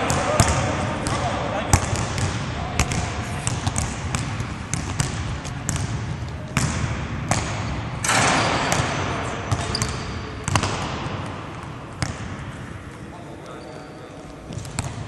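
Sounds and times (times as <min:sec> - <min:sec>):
basketballs bouncing on wooden floor: 0:00.0 - 0:12.8, 0:14.5 - 0:15.0.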